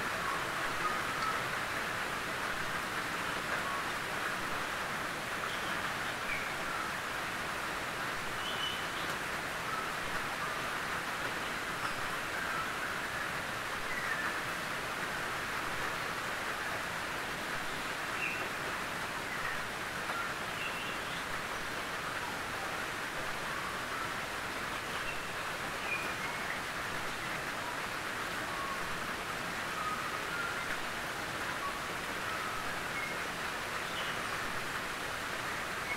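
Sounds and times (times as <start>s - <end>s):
rain on a tin roof: 0.0s - 35.9s.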